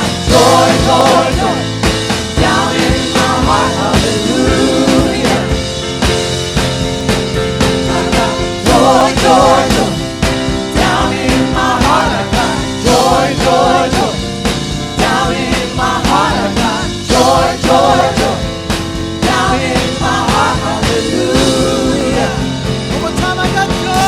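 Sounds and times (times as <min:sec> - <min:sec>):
group singing gospel: 0:00.0 - 0:23.2
drum beat: 0:00.0 - 0:24.0
live band: 0:00.0 - 0:24.0.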